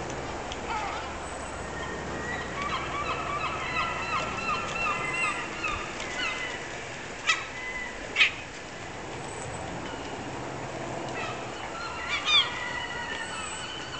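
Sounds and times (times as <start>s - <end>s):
seagulls calling: 0.6s - 8.6s, 9.2s - 13.9s.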